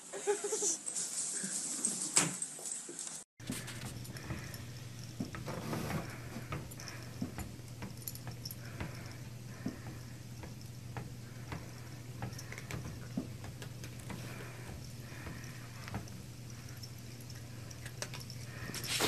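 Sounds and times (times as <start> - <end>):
treadmill motor hum: 3.4 - 19.0.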